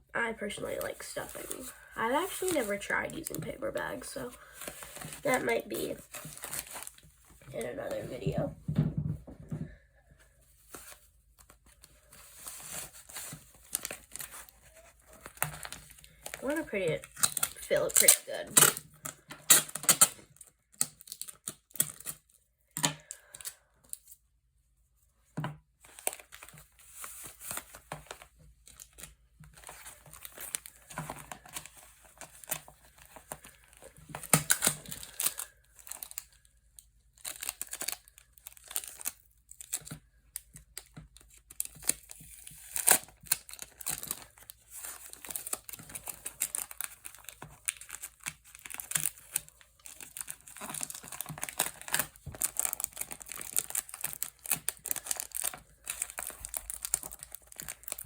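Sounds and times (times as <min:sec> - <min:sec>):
paper pouch crinkling: 0:00.4 - 0:08.1, 0:10.6 - 0:22.3, 0:25.9 - 0:58.0.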